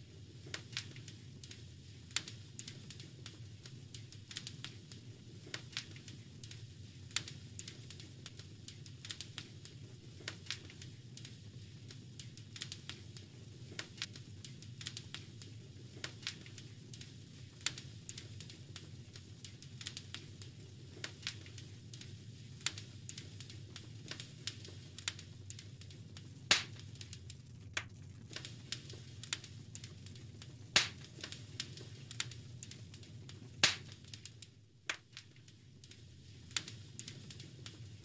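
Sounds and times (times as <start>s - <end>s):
low rumble of burning logs: 0.0s - 38.0s
wood fire crackling: 0.0s - 38.0s.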